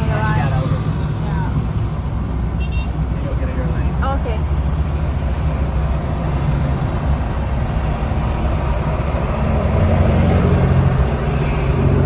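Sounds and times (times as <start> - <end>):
traffic engine and road rumble: 0.0 - 12.0.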